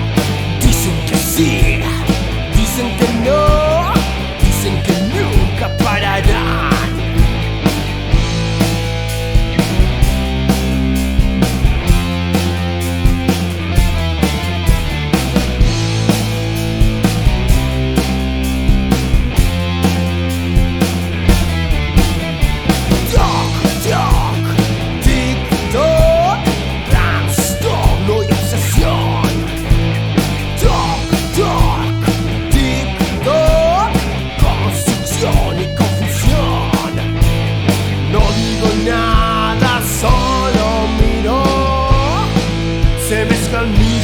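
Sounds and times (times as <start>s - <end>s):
bass and guitar chords: 0.0s - 44.0s
bending lead guitar line: 0.0s - 44.0s.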